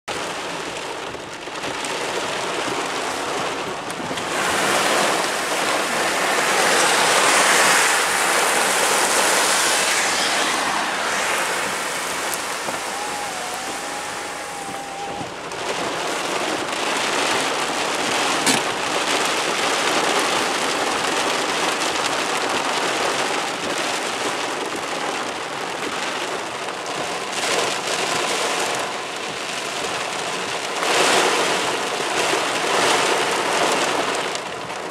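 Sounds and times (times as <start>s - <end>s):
rain pelting car windscreen: 0.1s - 34.9s.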